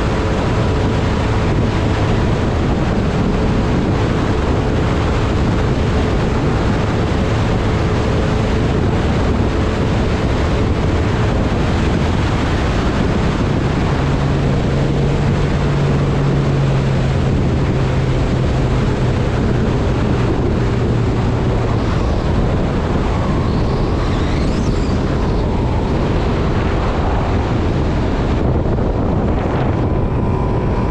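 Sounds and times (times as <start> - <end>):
outboard motor running: 0.0 - 30.9
wind noise on microphone: 0.0 - 30.9.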